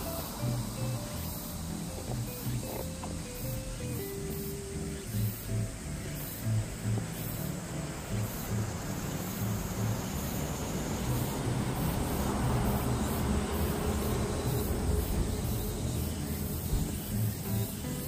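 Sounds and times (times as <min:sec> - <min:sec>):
background music with steady beat: 0:00.0 - 0:18.0
low noisy rumble: 0:00.0 - 0:18.0.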